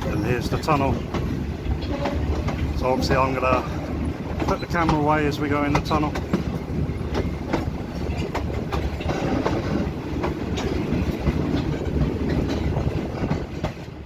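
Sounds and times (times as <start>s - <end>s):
train wheels rumbling on rails: 0.0s - 14.0s
wheels clacking over rail joints: 0.0s - 14.0s.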